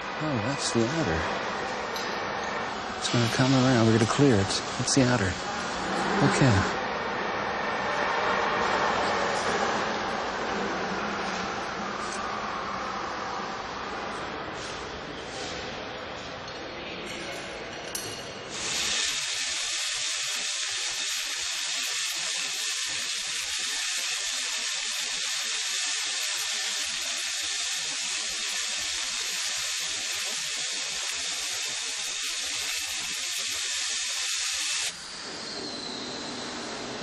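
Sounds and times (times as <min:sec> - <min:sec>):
steady loud hiss: 0:00.0 - 0:16.4, 0:18.4 - 0:37.0.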